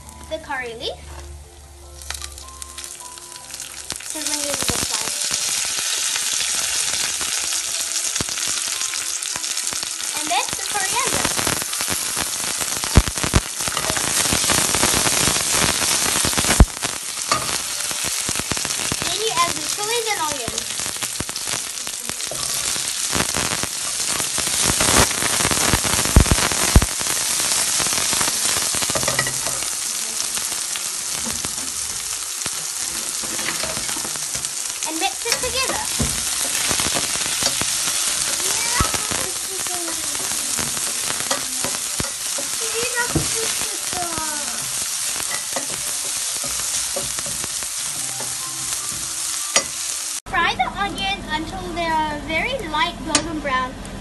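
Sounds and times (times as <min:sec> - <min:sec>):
onion sizzling in hot oil: 0:00.0 - 0:50.5.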